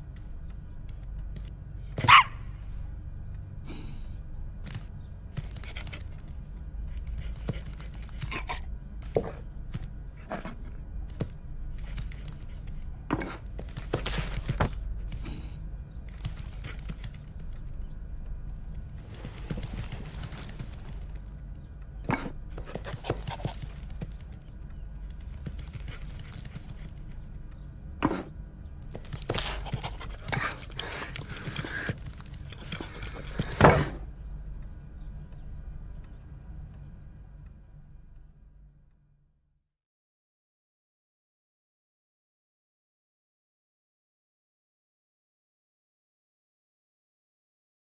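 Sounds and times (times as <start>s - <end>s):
steady low hum: 0.0s - 39.6s.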